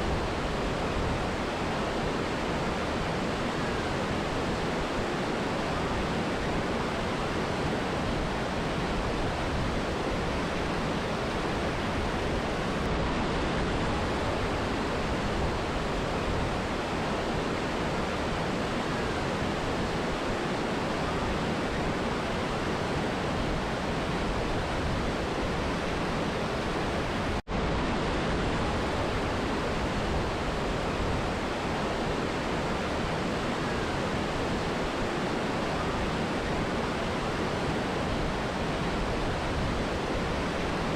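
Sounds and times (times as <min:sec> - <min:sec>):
river and waterfall rushing: 0:00.0 - 0:40.9.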